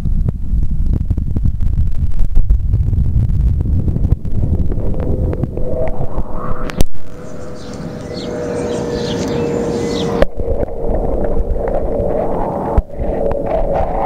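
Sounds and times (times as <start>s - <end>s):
thin steady hum: 0.0s - 14.0s
underwater rumbling water: 0.0s - 14.0s.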